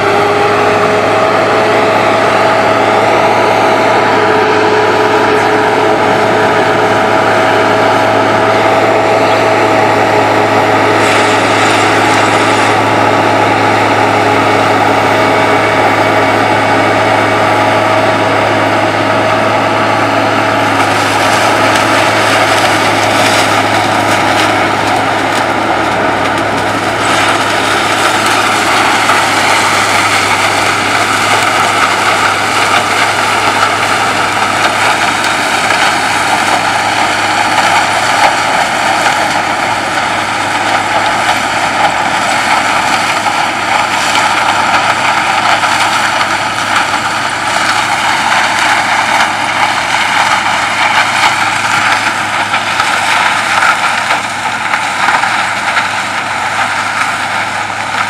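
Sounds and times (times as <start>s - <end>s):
sugarcane harvester machinery din: 0.0s - 58.0s.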